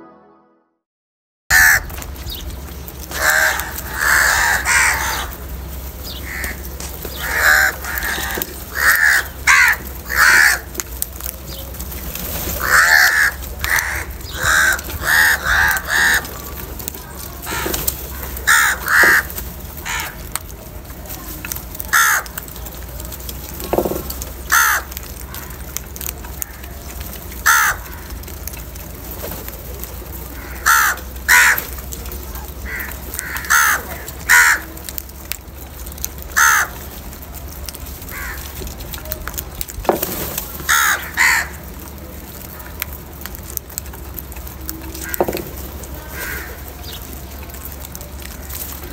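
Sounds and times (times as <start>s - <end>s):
crows cawing: 1.5s - 2.4s, 3.0s - 38.8s, 40.4s - 48.9s.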